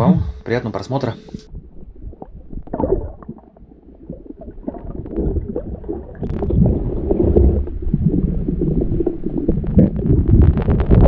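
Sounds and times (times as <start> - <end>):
muffled underwater rumble: 0.0 - 11.0.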